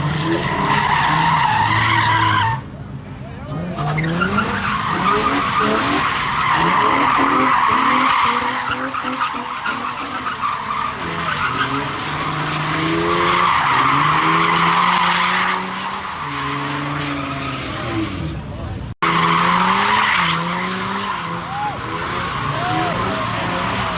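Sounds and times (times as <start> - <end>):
car tyres screeching: 0.0 - 23.9
car engine revving: 3.4 - 23.9.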